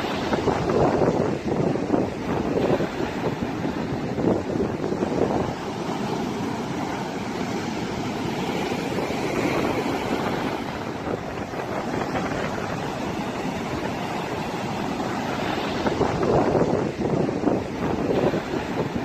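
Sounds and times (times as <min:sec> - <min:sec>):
surf breaking on beach: 0:00.0 - 0:19.0
wind blowing on microphone: 0:00.0 - 0:19.0.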